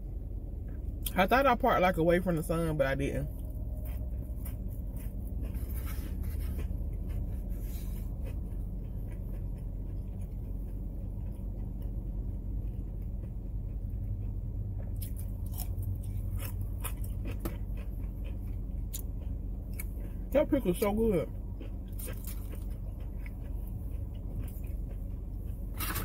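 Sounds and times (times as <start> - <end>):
car interior hum: 0.0 - 26.0
chewing pickle: 3.2 - 26.0.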